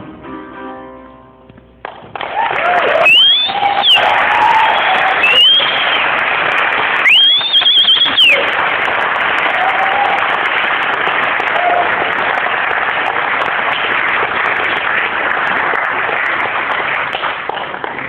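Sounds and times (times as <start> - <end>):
audience applauding and cheering: 1.8 - 18.0.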